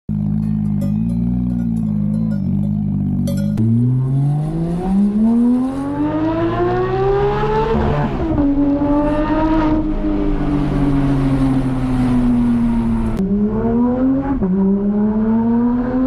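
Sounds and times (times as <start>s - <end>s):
car engine revving: 0.1s - 16.0s.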